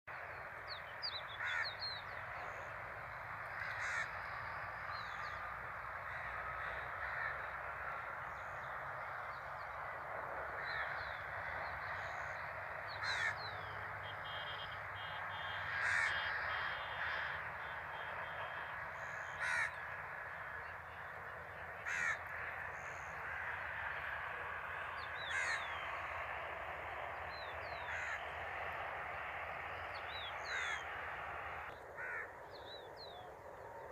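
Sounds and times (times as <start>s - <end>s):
steady outdoor hiss: 0.1s - 33.9s
harsh bird calls: 0.2s - 33.9s.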